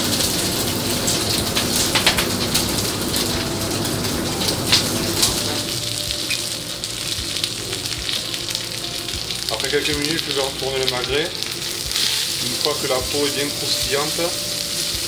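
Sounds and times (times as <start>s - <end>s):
fat crackling and spitting: 0.0s - 15.0s
meat sizzling on a griddle: 0.0s - 15.0s.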